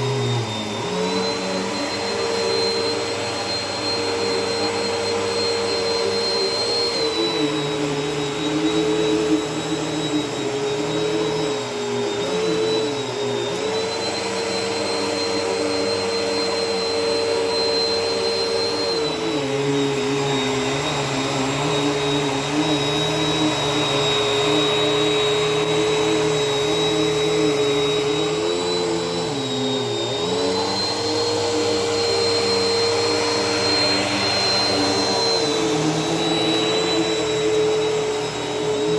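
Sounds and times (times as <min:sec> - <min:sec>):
vacuum cleaner on carpet: 0:00.0 - 0:38.9.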